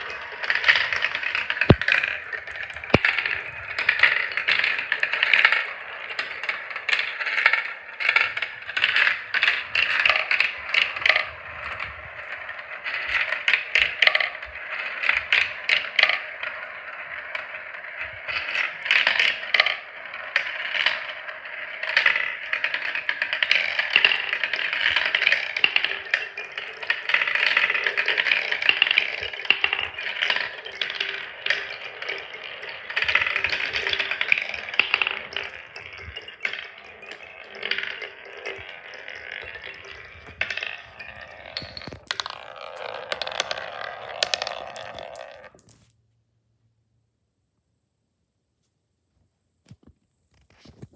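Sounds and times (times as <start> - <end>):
marbles rattling through plastic run: 0.0 - 45.8
marble whirring around funnel: 0.0 - 45.9.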